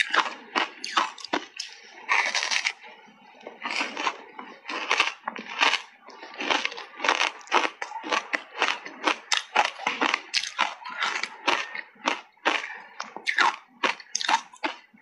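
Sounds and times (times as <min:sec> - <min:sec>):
ice being chewed crunching: 0:00.0 - 0:14.9.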